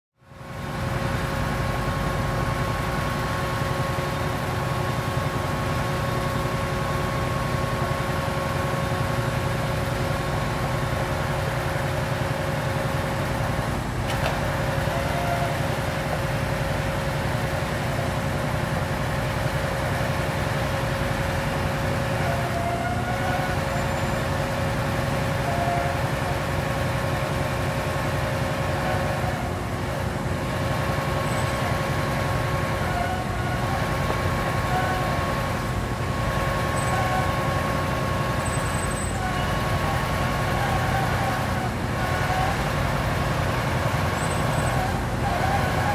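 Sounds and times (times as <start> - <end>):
heavy diesel engines droning: 0.2 - 45.9
road machinery running: 0.2 - 45.9.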